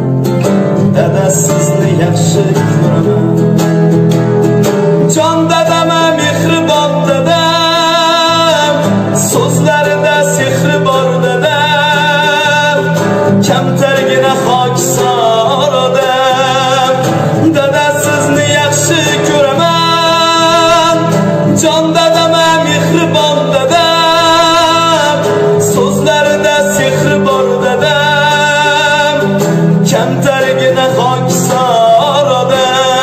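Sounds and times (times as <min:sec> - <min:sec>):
strummed acoustic guitar: 0:00.0 - 0:33.0
young man singing: 0:00.7 - 0:04.1, 0:04.7 - 0:33.0.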